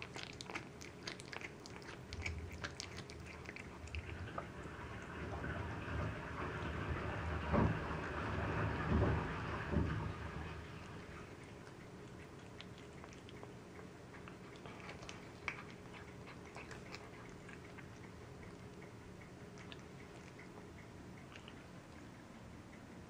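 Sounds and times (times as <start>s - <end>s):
cat chewing and licking: 0.0s - 23.0s.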